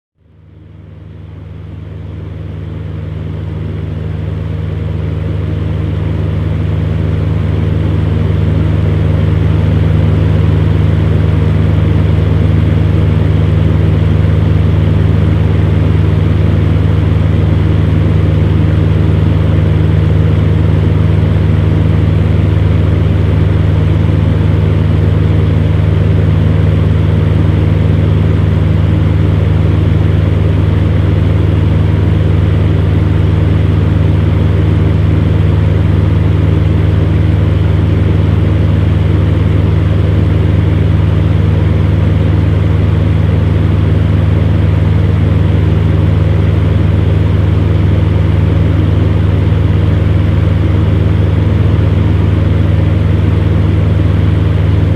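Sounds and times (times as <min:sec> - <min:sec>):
electric fan running: 0:00.2 - 0:54.9.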